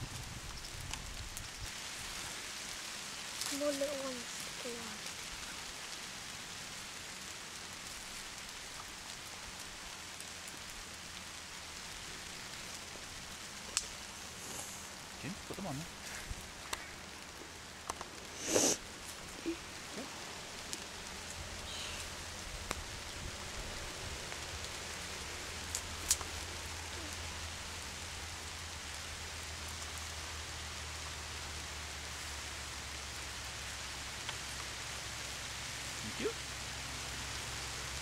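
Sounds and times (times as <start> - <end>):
rain on leaf litter: 0.0 - 38.0.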